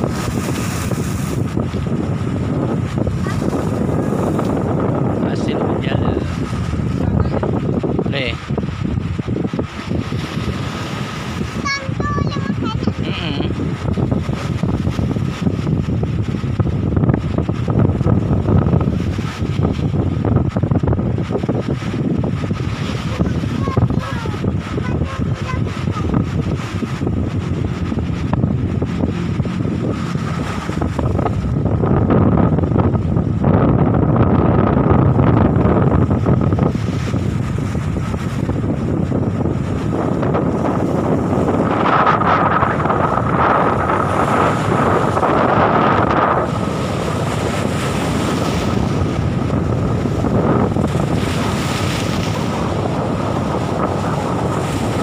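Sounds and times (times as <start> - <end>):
sea waves washing on shore: 0.0 - 55.0
wind buffeting microphone: 0.0 - 55.0.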